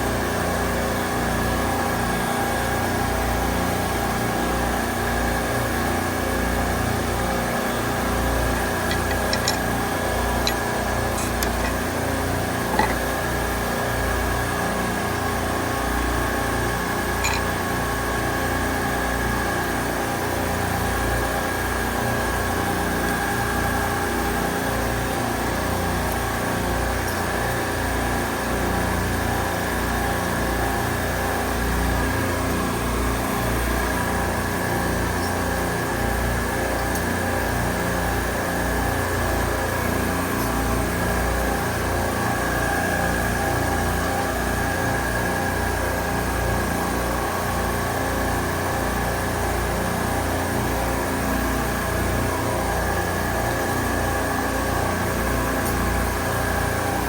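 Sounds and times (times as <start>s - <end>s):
refrigeration equipment humming: 5.9s - 57.0s.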